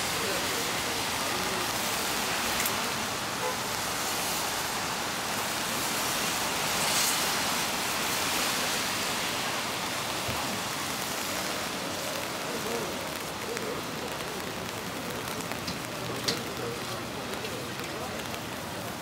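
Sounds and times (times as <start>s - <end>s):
car tyres hissing on wet road: 0.0s - 19.0s
steady rain: 0.0s - 19.0s.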